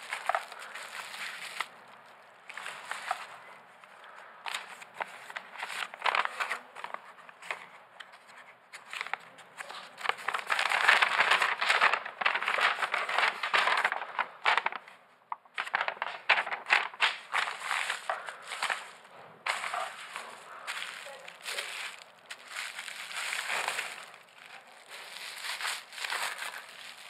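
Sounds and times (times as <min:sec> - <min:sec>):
paper rustling and crinkling: 0:00.0 - 0:27.0.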